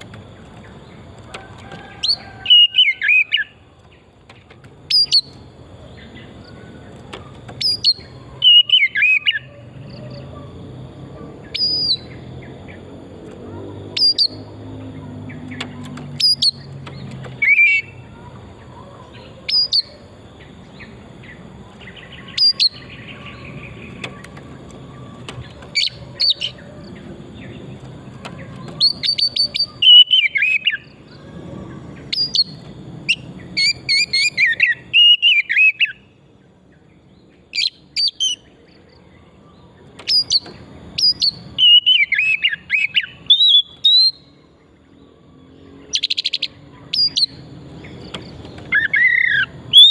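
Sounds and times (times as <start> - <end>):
magpie-robin singing: 1.9 - 3.6, 4.8 - 10.3, 11.4 - 12.8, 13.8 - 36.2, 37.5 - 38.9, 39.9 - 44.5, 45.4 - 49.9.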